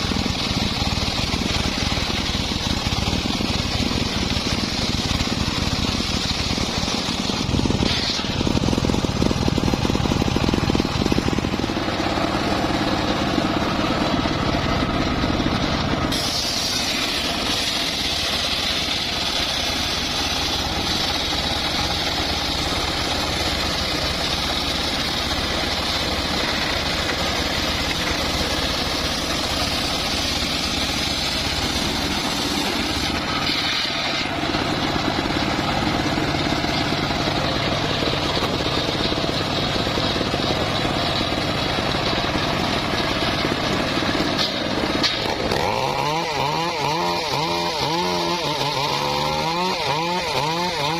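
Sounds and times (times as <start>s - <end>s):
circular sawmill sawing log: 0.0s - 50.9s.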